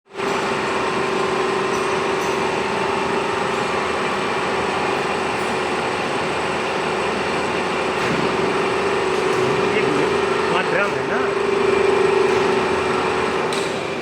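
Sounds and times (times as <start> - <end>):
furnace machine hum: 0.1 - 14.0.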